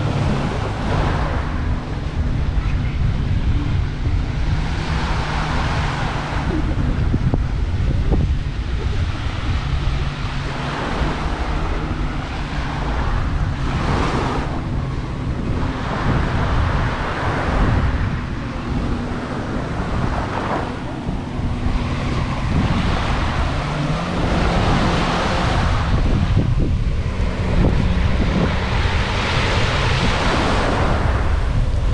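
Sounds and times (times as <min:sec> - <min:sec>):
sea waves breaking: 0:00.0 - 0:31.9
wind rumble on microphone: 0:00.0 - 0:31.9.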